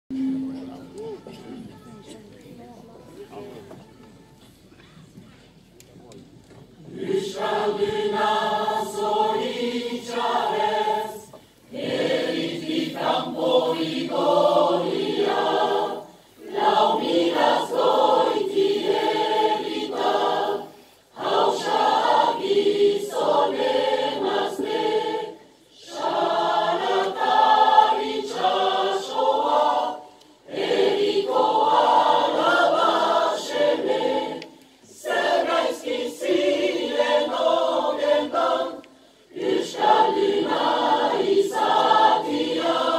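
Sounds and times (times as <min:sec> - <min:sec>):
mixed choir singing: 0:06.8 - 0:42.9.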